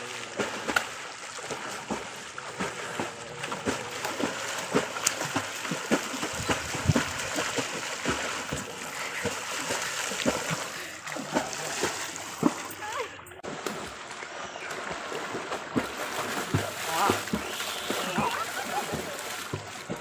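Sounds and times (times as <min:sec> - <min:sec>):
swimmers splashing: 0:00.0 - 0:20.0
water washing: 0:00.0 - 0:20.0.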